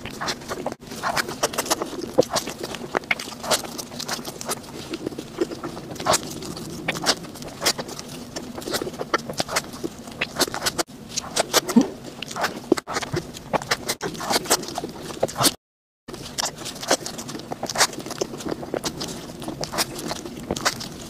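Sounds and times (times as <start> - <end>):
chewing sponge cake: 0.0 - 21.0.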